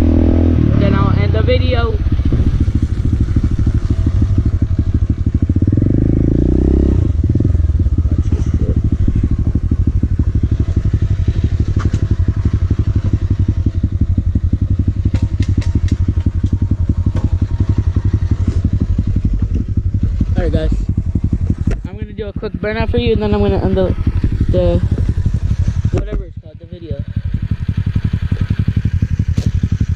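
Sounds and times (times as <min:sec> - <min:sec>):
motorcycle engine idling: 0:00.0 - 0:29.9
motorcycle engine revving: 0:00.0 - 0:29.9.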